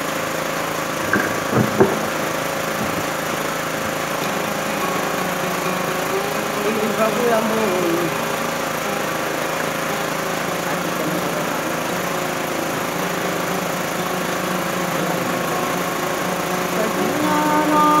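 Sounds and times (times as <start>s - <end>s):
amplified lutes playing: 0.0s - 18.0s.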